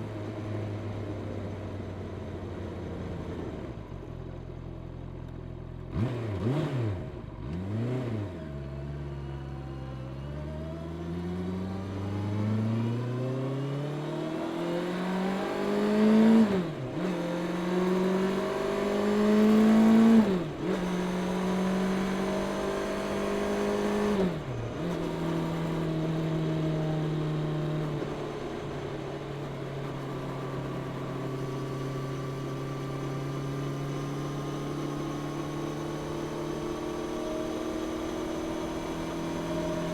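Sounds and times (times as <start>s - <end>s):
motorcycle engine revving: 5.9s - 9.0s, 10.1s - 39.9s.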